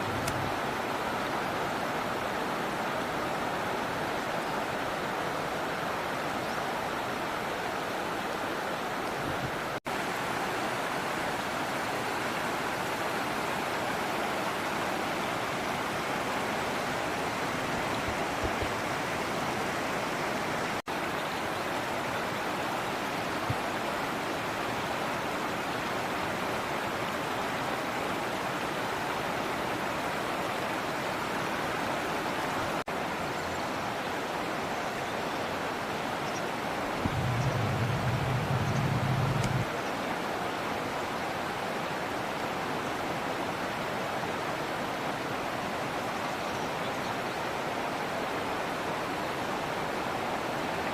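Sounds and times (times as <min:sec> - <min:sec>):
flowing river water: 0:00.0 - 0:50.9.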